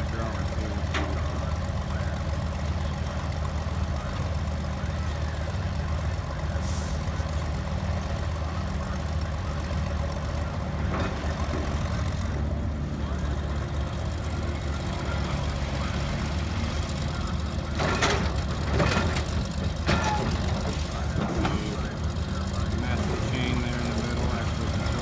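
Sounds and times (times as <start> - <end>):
heavy engine running: 0.0 - 25.0.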